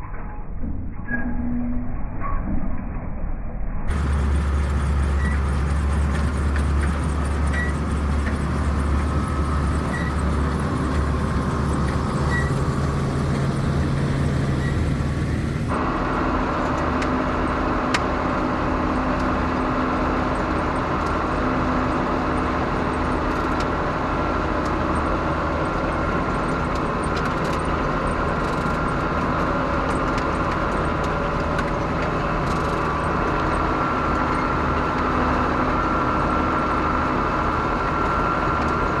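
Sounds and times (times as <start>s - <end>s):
combine harvester droning: 3.9s - 39.0s.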